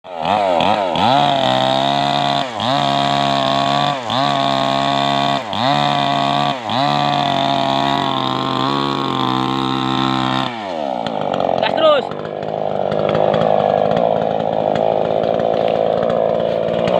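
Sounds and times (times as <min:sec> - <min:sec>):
chainsaw cutting wood: 0:00.0 - 0:16.9.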